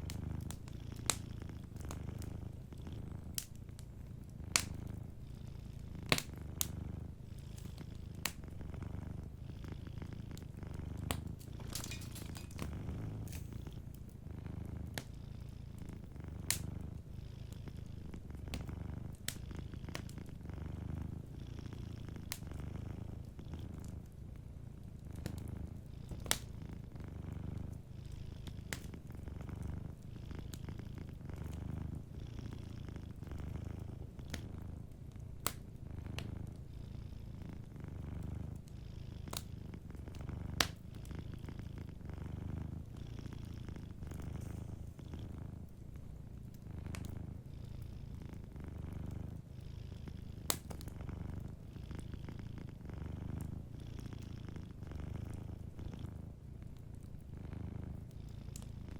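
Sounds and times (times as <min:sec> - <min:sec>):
wood fire crackling: 0:00.0 - 0:21.4, 0:22.2 - 0:32.2, 0:33.0 - 0:49.5, 0:50.3 - 0:52.1, 0:52.7 - 0:53.7
cat purring: 0:00.0 - 0:58.9.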